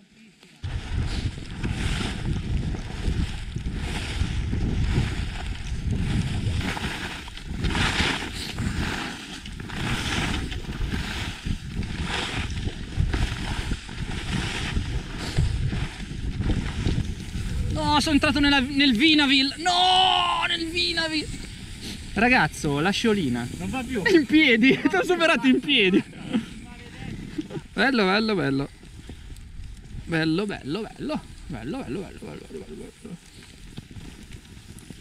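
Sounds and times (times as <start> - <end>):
skis hissing through snow: 0.6 - 35.0
wind rumble on microphone: 0.6 - 35.0.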